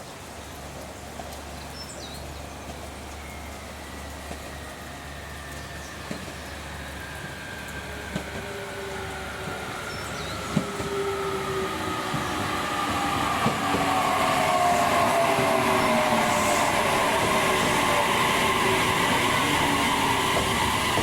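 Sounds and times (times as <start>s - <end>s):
train pulling into station: 0.2s - 21.0s.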